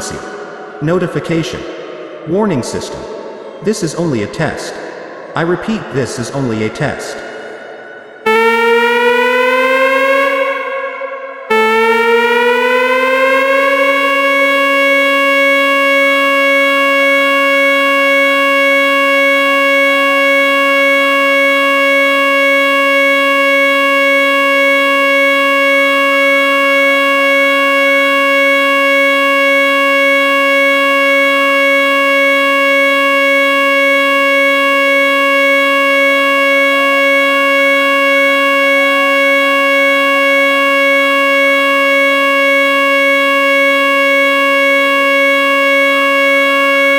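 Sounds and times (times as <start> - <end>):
electronic warning siren: 8.3 - 46.9.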